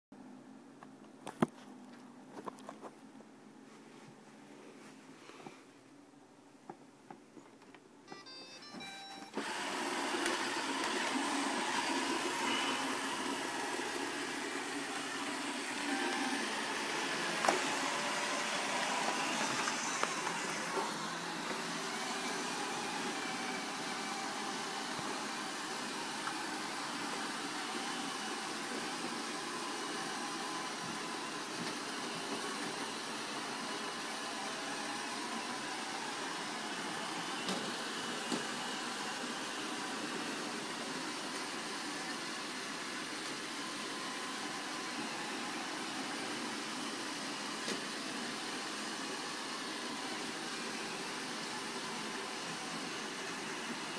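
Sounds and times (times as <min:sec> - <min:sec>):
robot vacuums whirring: 0:09.2 - 0:53.9.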